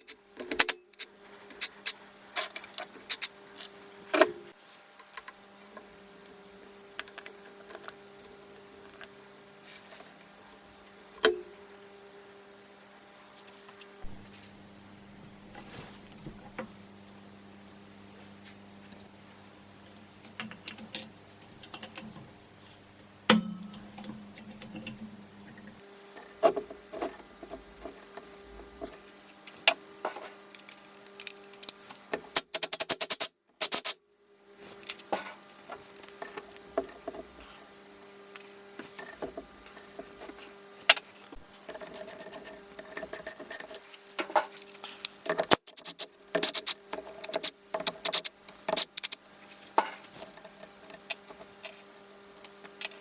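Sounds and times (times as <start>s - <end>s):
faint steady hum: 0.0s - 32.5s, 33.4s - 53.0s.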